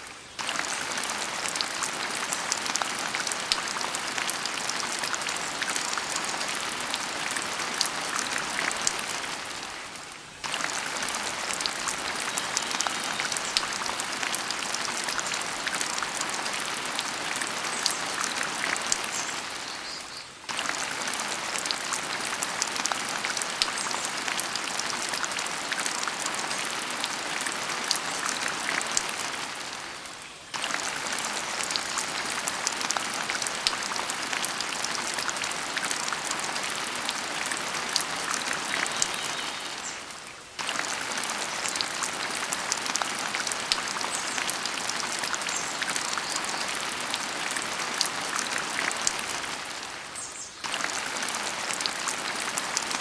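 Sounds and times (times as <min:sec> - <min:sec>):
rain-like patter: 0:00.0 - 0:53.0.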